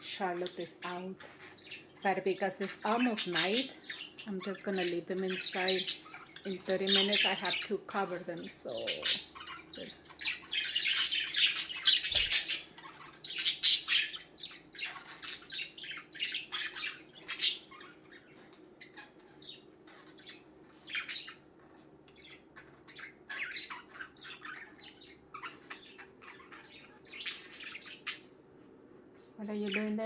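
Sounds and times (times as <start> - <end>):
budgerigars chirping and squawking: 0.0 - 30.0.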